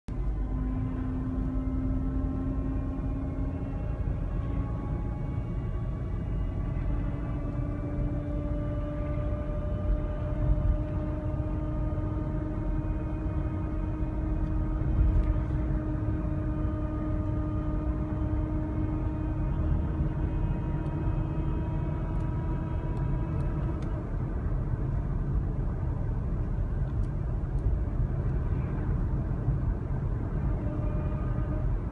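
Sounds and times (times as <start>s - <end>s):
transmission whine: 0.1s - 25.0s, 26.7s - 31.9s
low road rumble: 0.1s - 31.9s.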